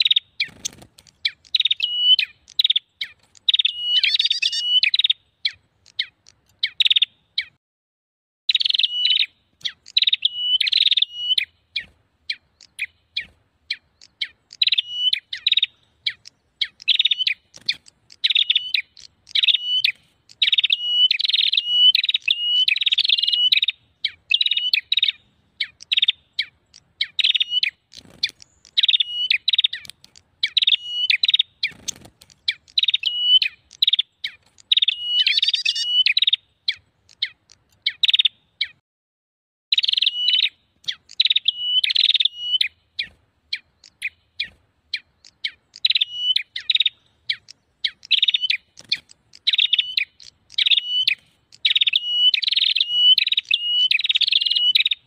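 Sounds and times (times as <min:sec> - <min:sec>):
birds chirping: 0:00.0 - 0:07.6, 0:08.5 - 0:38.8, 0:39.7 - 0:55.0.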